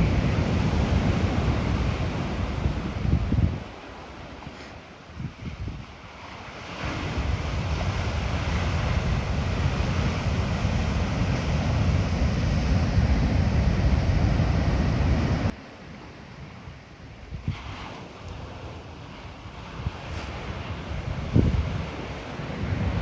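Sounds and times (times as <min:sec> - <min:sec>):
wind buffeting microphone: 0:00.0 - 0:15.6, 0:16.5 - 0:23.0
ocean surf: 0:00.0 - 0:23.0.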